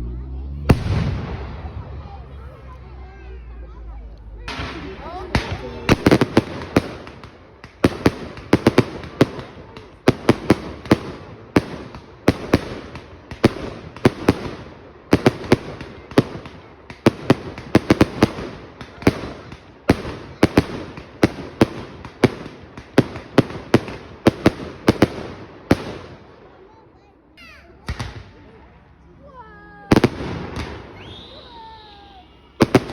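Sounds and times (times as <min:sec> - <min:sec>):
fireworks bangs with echo: 0:00.5 - 0:02.6, 0:04.4 - 0:26.8, 0:27.8 - 0:28.7, 0:29.9 - 0:32.9.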